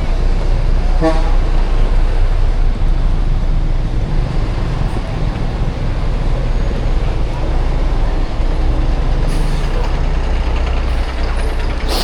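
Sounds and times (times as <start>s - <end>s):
large vehicle rumbling past: 0.0s - 12.0s.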